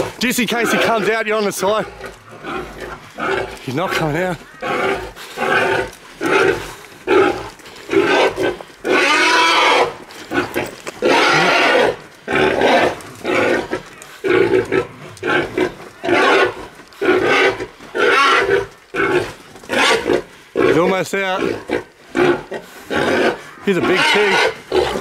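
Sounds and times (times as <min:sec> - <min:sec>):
wild boar squealing: 0:00.0 - 0:25.0.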